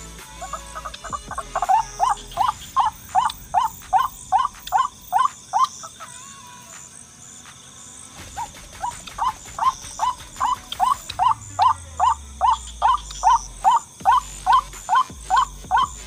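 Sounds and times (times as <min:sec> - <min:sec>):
waterhen calling: 0:00.0 - 0:06.2, 0:08.3 - 0:16.0.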